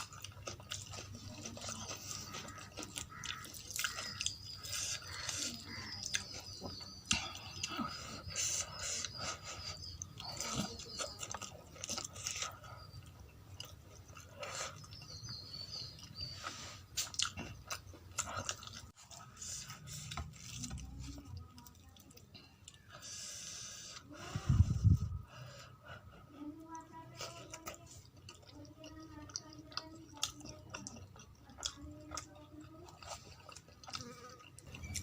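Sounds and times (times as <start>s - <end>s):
chewing and biting food: 0.0s - 23.2s, 26.8s - 35.0s.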